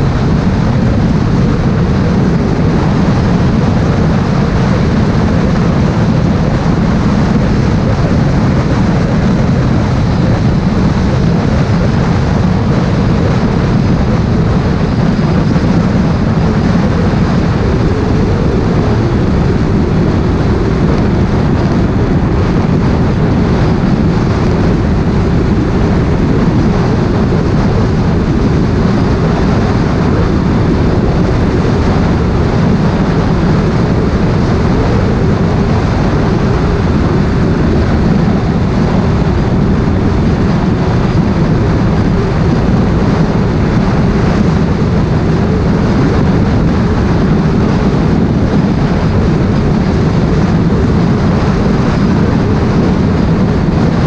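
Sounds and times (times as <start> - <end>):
wind rush: 0.0 - 54.0.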